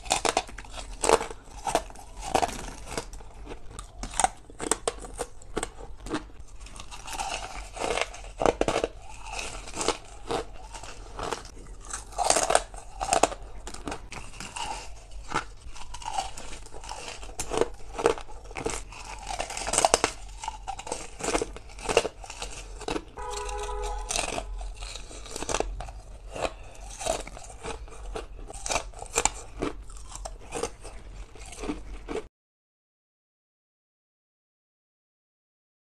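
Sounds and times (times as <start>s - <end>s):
crushed ice being chewed: 0.0s - 32.3s.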